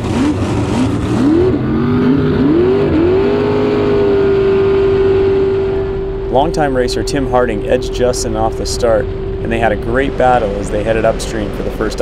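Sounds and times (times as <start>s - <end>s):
jet boat engine revving: 0.0s - 12.0s.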